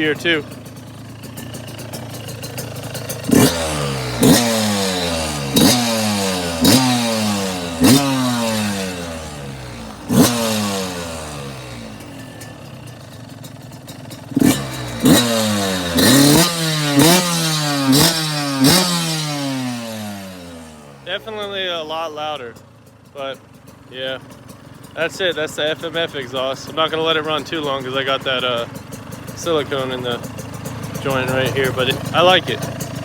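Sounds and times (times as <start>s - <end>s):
two-stroke engine revving: 0.0s - 33.0s.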